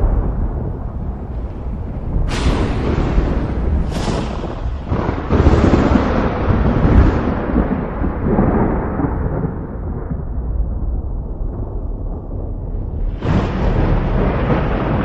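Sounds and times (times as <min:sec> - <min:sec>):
thunder crack and rumble: 0:00.0 - 0:15.0.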